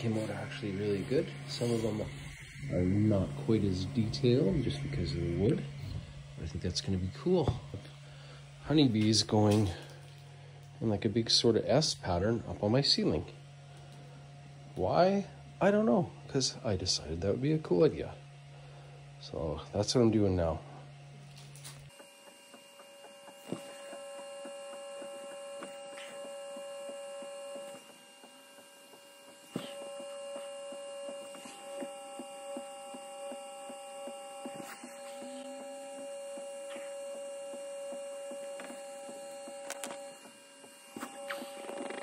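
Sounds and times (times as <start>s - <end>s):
laser engraver motor whine: 0.0s - 42.0s.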